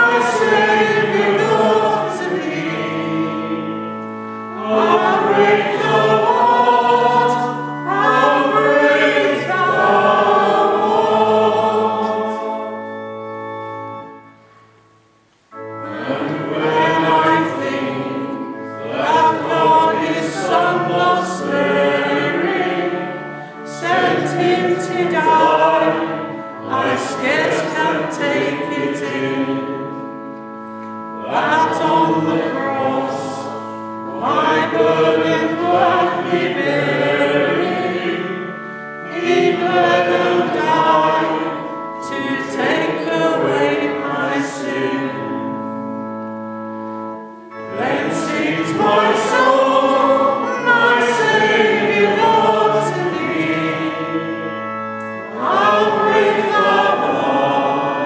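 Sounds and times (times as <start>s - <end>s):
congregation singing a hymn: 0.0s - 14.4s, 15.5s - 58.0s
held accompaniment notes: 0.0s - 58.0s.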